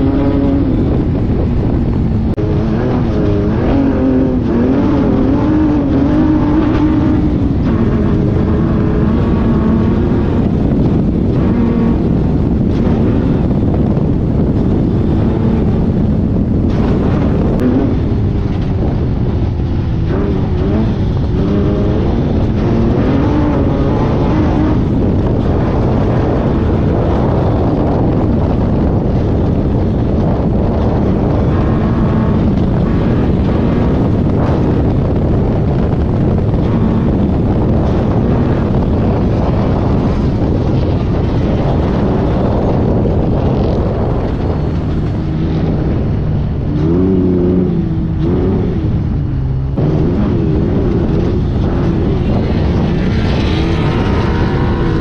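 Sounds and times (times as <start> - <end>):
buggy engine revving: 0.0 - 55.0
wind noise: 0.0 - 55.0.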